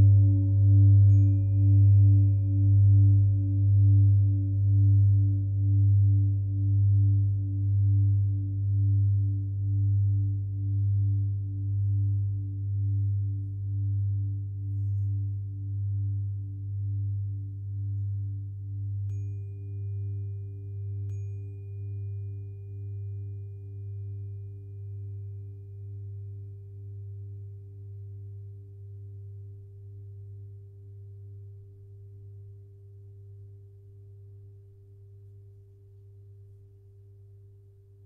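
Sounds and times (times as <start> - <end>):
tuning fork ringing: 0.0 - 37.7.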